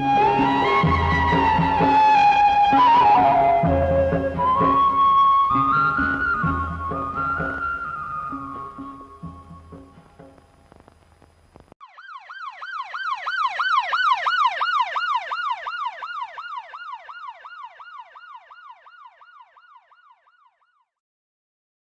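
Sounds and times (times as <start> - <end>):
emergency siren yelping: 0.0 - 9.4, 11.8 - 20.9.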